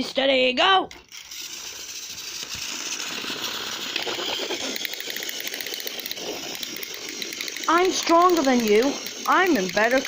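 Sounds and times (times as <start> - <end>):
toy train motors whirring: 0.0 - 10.0.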